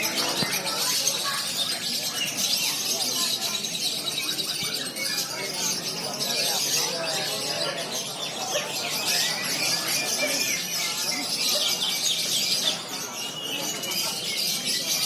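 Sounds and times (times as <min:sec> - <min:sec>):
lovebirds chirping and trilling: 0:00.0 - 0:15.0.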